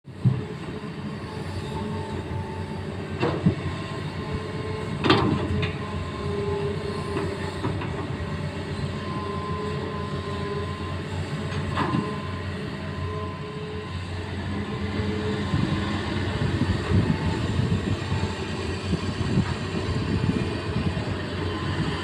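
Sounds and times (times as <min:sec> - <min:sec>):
excavator engine droning: 0:00.1 - 0:22.0
faint hydraulic whine: 0:00.1 - 0:22.0.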